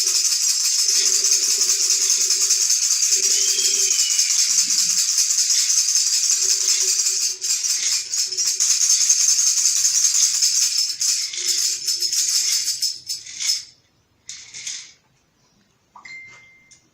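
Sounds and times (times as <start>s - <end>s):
tambourines rattling: 0.0s - 15.0s.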